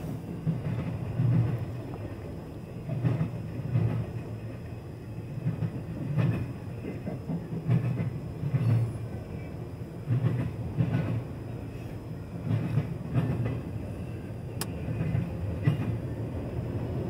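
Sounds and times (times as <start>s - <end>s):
train rumble: 0.0s - 17.0s
train wheels clacking on rails: 0.0s - 17.0s.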